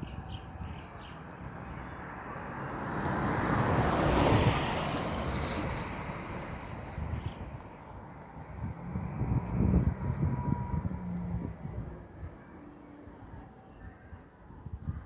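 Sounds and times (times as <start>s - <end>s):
wind rumble on microphone: 0.0s - 2.6s, 3.2s - 15.0s.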